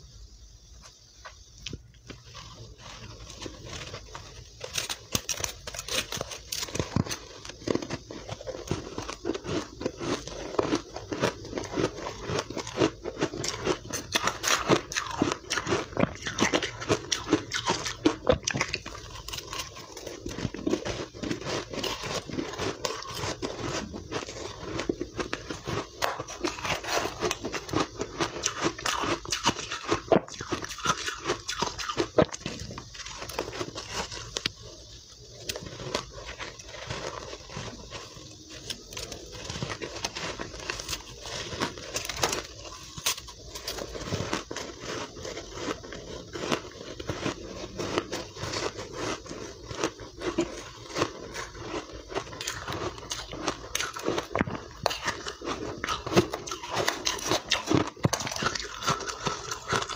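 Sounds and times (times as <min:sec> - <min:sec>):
person chewing crunchy ice: 0:01.6 - 0:59.9.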